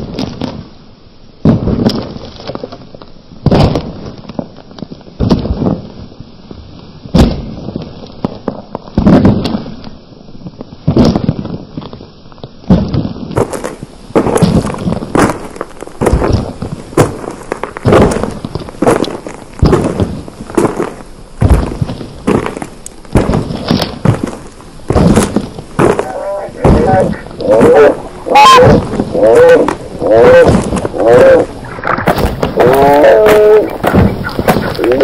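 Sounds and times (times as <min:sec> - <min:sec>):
loud booms and cracks: 0:01.4 - 0:02.4, 0:03.4 - 0:06.1, 0:07.1 - 0:09.8, 0:10.8 - 0:11.6, 0:12.6 - 0:35.0.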